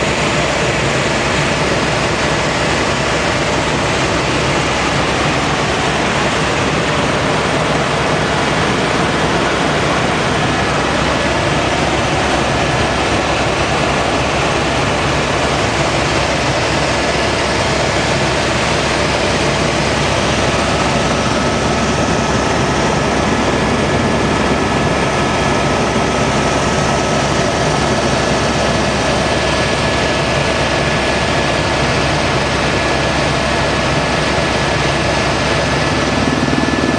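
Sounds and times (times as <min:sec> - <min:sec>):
helicopter engine and rotor drone: 0:00.0 - 0:36.9.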